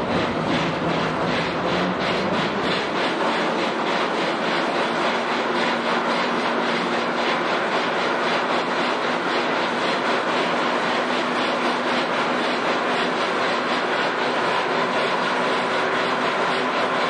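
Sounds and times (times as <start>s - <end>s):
bridge machinery rumbling: 0.0s - 17.0s.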